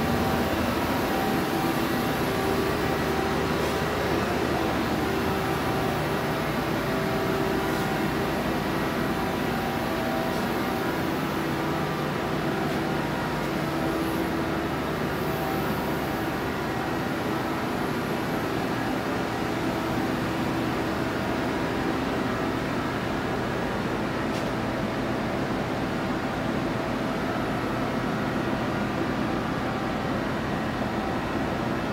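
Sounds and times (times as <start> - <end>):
industrial machinery hum: 0.0 - 31.9.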